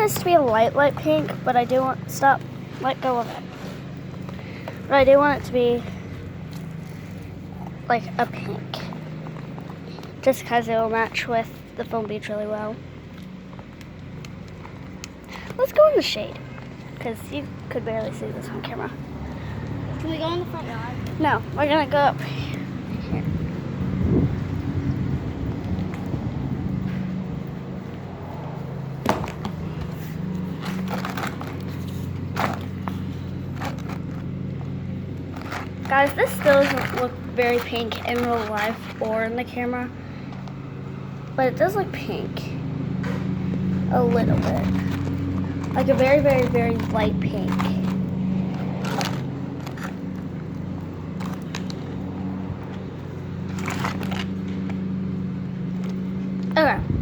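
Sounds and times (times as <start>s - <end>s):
short crackles and scrapes: 0.0s - 56.9s
low engine hum: 0.0s - 57.0s.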